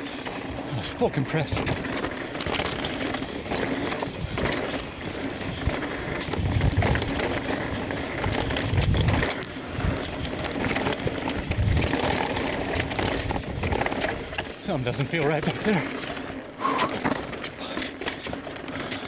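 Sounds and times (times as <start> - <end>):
bike chain and frame rattling: 0.0 - 19.0
tyres crunching over rock: 1.3 - 19.0.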